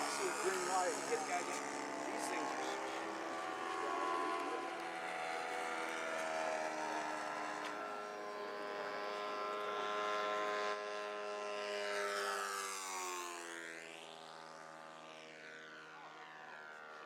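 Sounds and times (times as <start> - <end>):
model airplane engine: 0.0 - 17.0.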